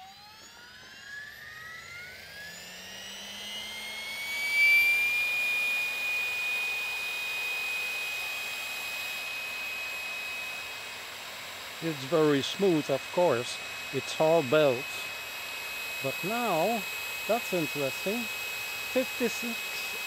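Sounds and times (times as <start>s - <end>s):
electric helicopter motor whine: 0.0s - 20.0s.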